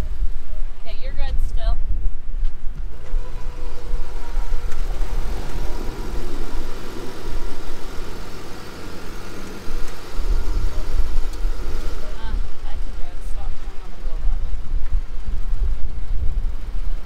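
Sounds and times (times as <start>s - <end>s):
car engine running: 2.2s - 17.0s.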